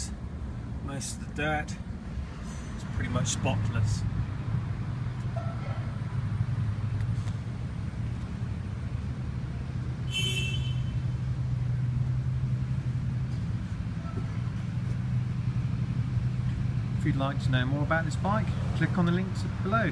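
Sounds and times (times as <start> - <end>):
low engine hum: 0.0 - 19.9.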